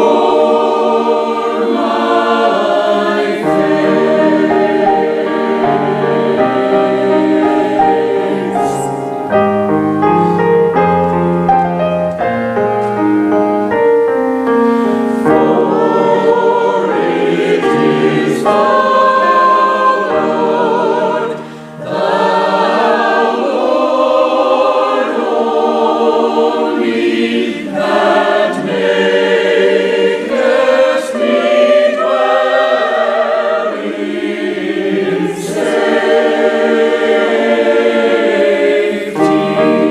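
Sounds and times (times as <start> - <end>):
church choir singing in harmony: 0.0 - 39.9.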